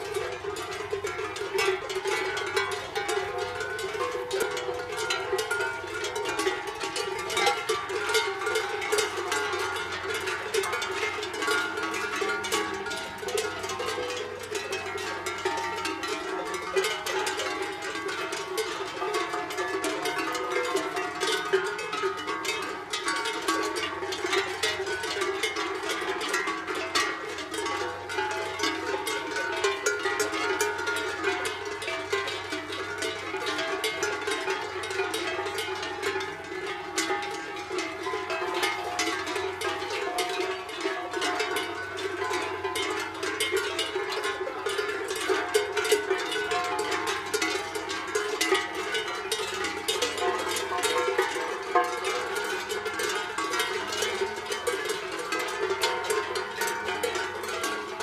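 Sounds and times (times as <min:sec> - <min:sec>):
cowbells clanking: 0:00.0 - 0:58.0.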